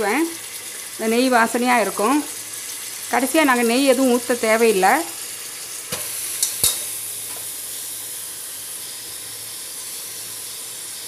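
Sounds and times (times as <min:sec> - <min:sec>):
rice sizzling in hot ghee: 0:00.0 - 0:11.0.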